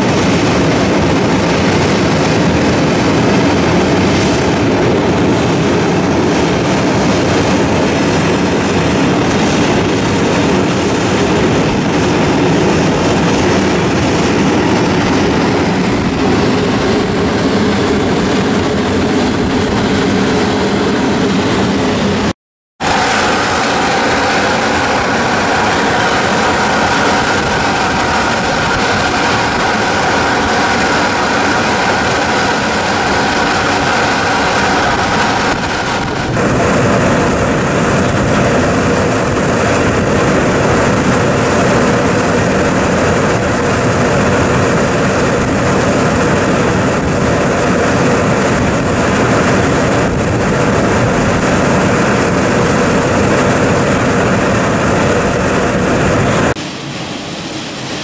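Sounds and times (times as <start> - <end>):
fumaroles blasting gas: 0.0 - 58.0.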